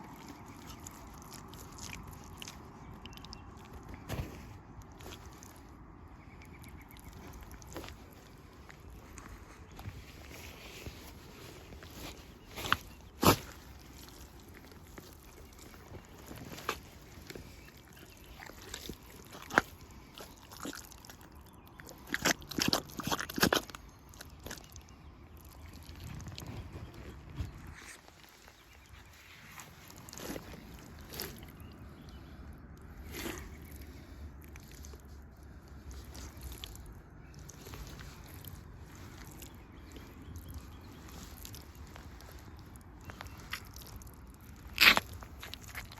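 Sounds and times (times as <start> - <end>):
rubber boots squelching in mud: 0.0 - 45.9.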